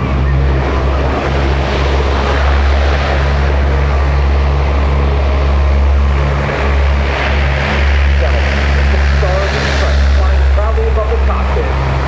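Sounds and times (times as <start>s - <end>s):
turboprop engines droning: 0.0s - 12.0s.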